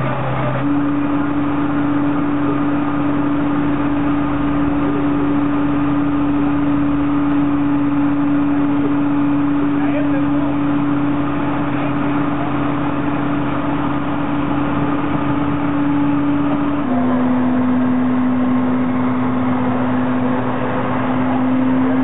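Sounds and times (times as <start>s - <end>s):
fire truck engine droning: 0.0s - 22.0s.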